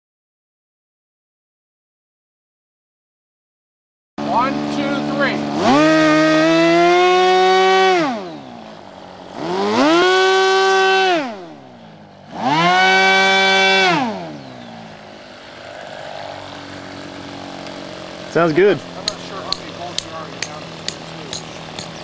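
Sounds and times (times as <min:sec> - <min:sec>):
model airplane engine revving: 0:04.2 - 0:22.0.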